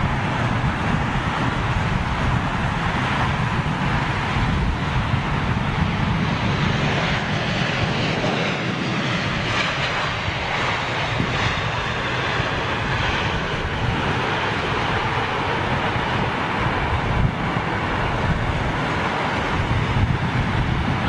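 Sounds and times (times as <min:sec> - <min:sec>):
jet engine rushing: 0:00.0 - 0:21.0.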